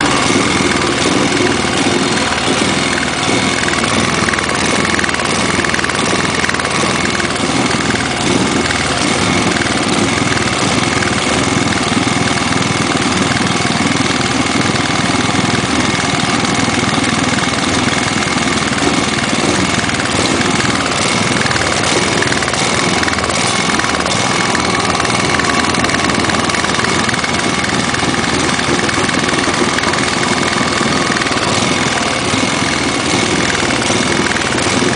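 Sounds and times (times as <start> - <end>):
small engine hunting at low speed: 0.0 - 34.9.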